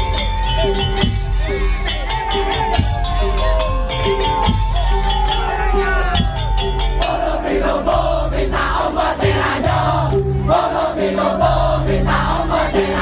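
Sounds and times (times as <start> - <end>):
crowd noise: 0.0 - 13.0
percussion ensemble playing: 0.0 - 13.0.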